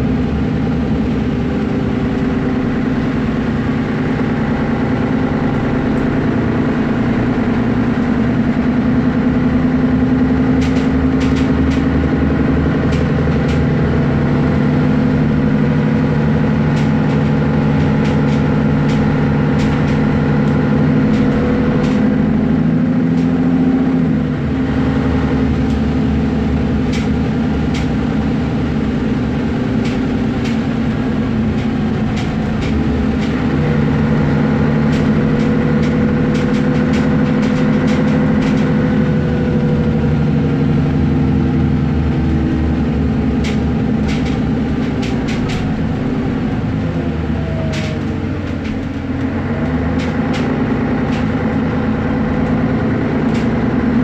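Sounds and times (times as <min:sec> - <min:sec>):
bus engine running: 0:00.0 - 0:54.0
ticks and rattles: 0:07.5 - 0:23.6, 0:25.5 - 0:54.0.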